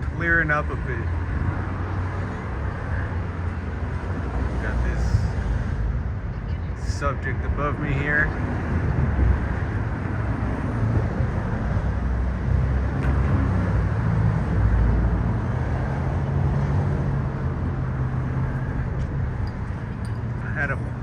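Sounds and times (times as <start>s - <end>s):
motor vehicle rumble: 0.0s - 21.0s.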